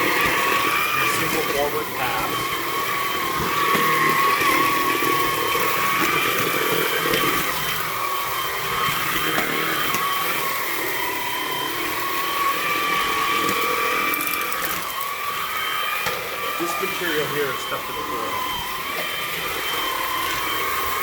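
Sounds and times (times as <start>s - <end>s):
stick vacuum running: 0.0s - 21.0s.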